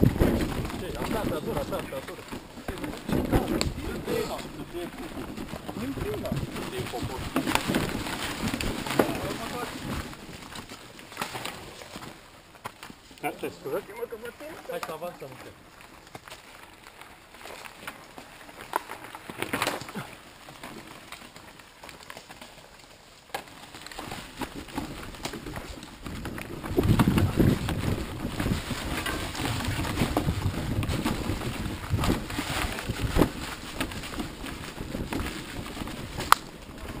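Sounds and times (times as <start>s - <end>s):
bike rattling and clicking: 0.0s - 37.0s
bike tyres on dirt: 0.0s - 37.0s.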